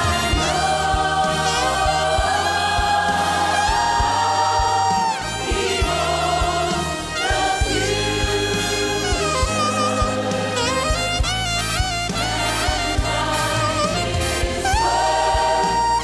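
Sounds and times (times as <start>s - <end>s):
choir singing: 0.0s - 11.2s, 12.2s - 16.0s
alto saxophone melody: 0.0s - 16.0s
band with steady drum beat: 0.0s - 16.0s.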